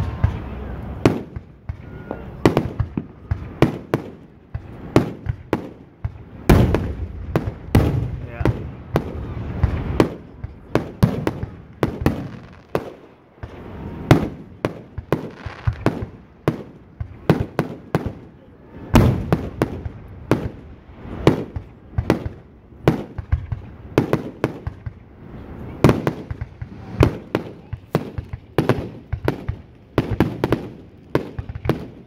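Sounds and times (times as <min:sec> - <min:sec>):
fireworks bursting with sharp bangs: 0:00.0 - 0:32.0
low rumble after fireworks: 0:00.0 - 0:32.0.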